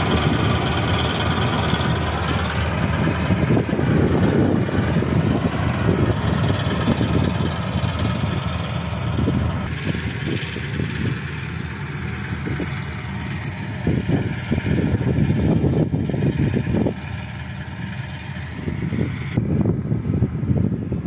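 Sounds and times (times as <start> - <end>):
tractor engine rumbling: 0.0 - 21.0
wind buffeting microphone: 0.0 - 21.0.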